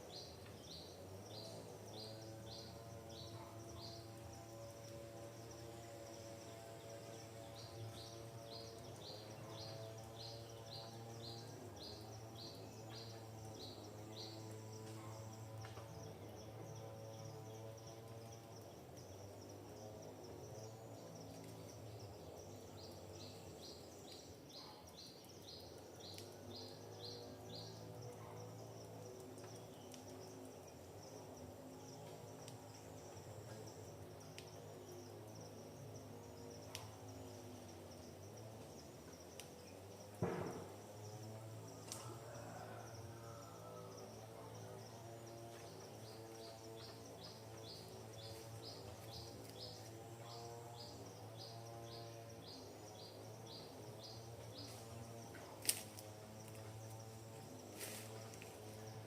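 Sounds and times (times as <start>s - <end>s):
high insect buzz: 0.0s - 59.0s.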